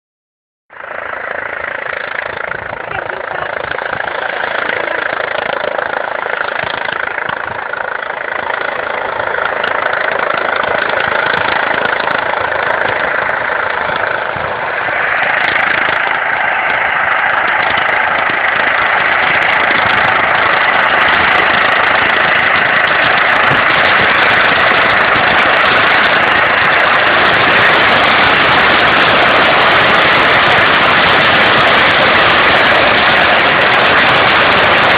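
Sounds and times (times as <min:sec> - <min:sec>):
helicopter engine and rotor: 0:00.7 - 0:34.9.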